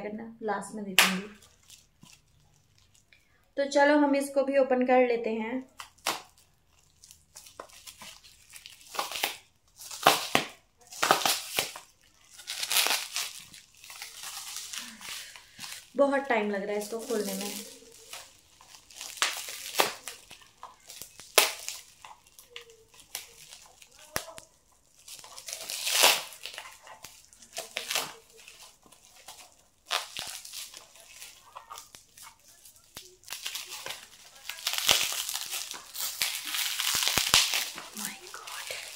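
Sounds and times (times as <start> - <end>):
plastic packaging crinkling and tearing: 1.0 - 3.6, 5.7 - 38.9.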